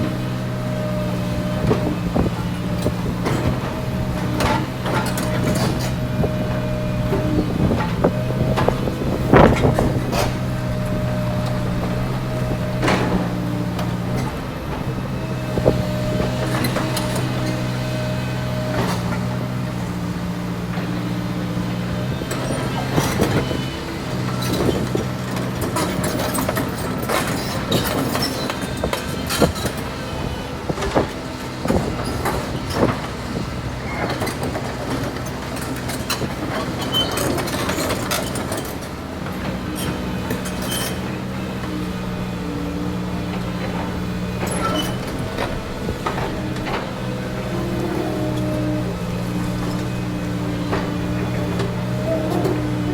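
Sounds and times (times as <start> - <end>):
heavy diesel machinery running: 0.0 - 52.9.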